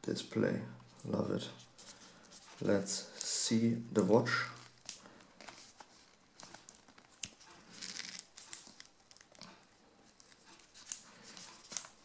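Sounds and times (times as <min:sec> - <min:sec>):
plastic and watch strap rustling: 0:00.9 - 0:12.0.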